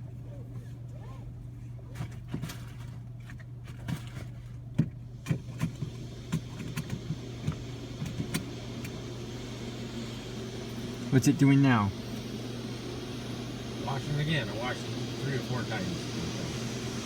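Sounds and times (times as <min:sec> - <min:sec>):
car wash hum: 0:00.0 - 0:17.0.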